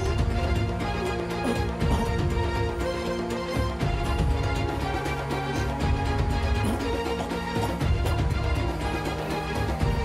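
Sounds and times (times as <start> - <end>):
film score music: 0.0 - 10.0.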